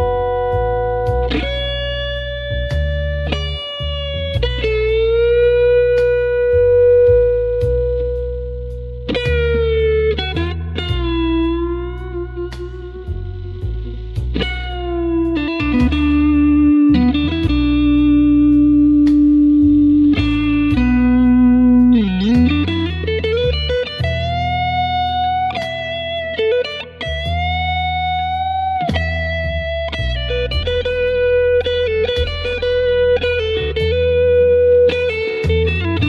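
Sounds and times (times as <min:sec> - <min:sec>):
electric guitar blues lead: 0:00.0 - 0:36.0
low backing line: 0:00.0 - 0:36.0.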